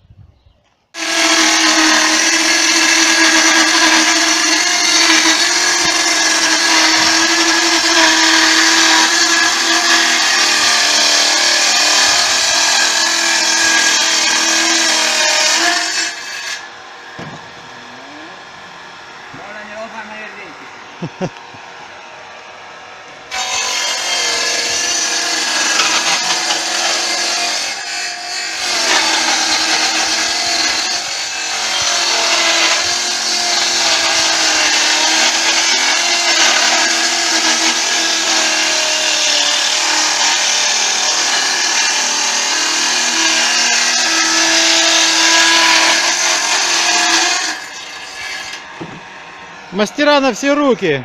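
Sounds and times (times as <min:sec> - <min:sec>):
power tool whining under load: 0:01.0 - 0:49.8.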